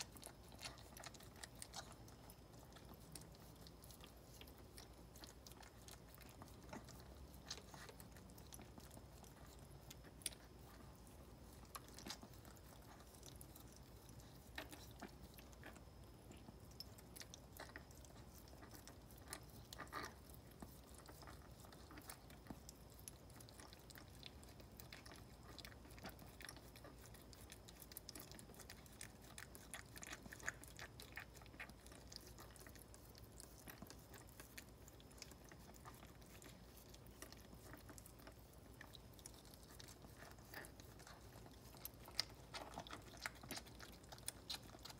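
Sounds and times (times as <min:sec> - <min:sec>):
dog licking wet clicks: 0:00.0 - 0:44.9.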